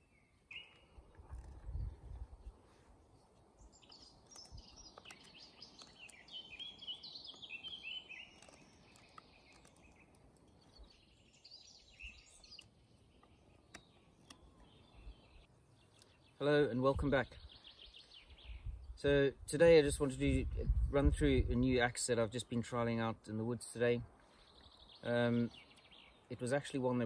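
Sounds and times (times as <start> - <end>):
faint songbird chirping: 0.0 - 19.4, 23.3 - 27.0.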